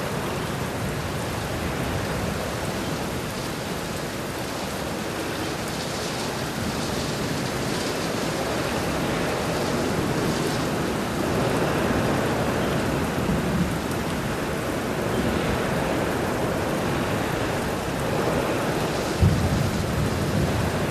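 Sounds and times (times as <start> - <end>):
steady rushing noise: 0.8 - 20.9.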